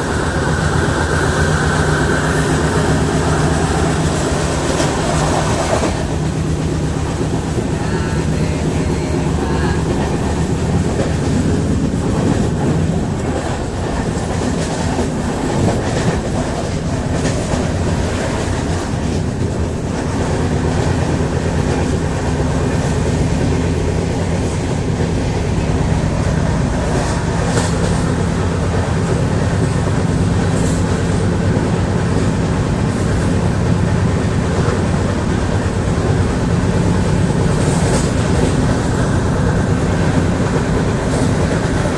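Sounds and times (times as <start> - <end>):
vehicle rumble and rattle: 0.0 - 41.9.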